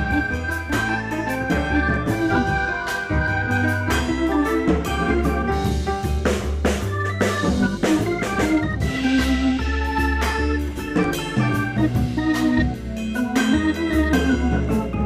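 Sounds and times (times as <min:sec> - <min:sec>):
upbeat electronic organ music: 0:00.0 - 0:15.0.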